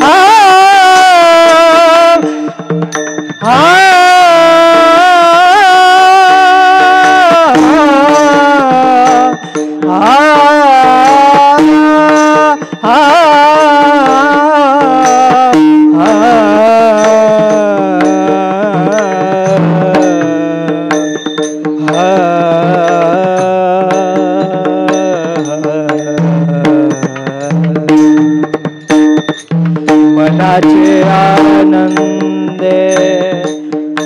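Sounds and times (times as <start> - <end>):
hand cymbals clinking: 0.0 - 5.6, 6.4 - 34.0
drum keeping time: 0.0 - 34.0
man singing devotional melody: 0.0 - 34.0.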